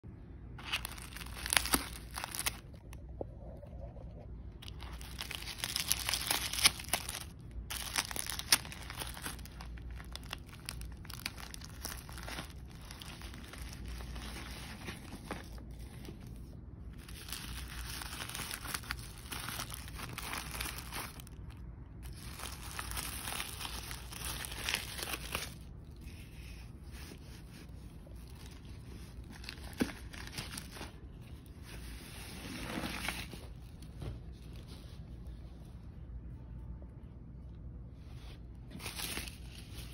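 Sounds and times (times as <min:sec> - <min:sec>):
paper crinkling and tearing: 0:00.6 - 0:03.0, 0:04.5 - 0:34.6, 0:38.6 - 0:39.9.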